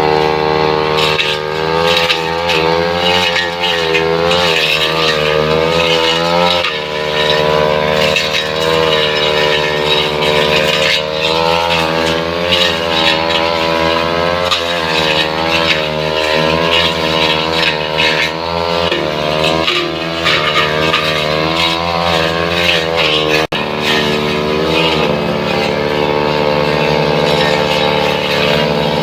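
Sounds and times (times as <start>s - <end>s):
brush cutter engine at high revs: 0.0s - 29.0s.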